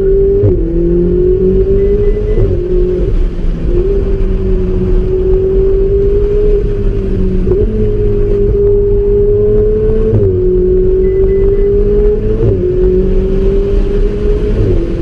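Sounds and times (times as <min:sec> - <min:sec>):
car engine at high revs: 0:00.0 - 0:15.0
low rumble: 0:00.0 - 0:15.0.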